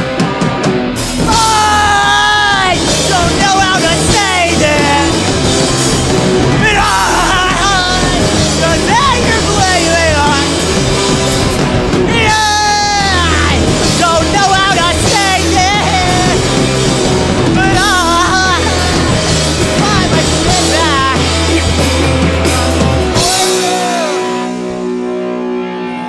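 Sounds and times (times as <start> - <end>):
drums: 0.0 - 26.0
electric bass: 0.0 - 26.0
electric guitars: 0.0 - 26.0
lead singer singing: 1.2 - 10.9, 11.9 - 24.6.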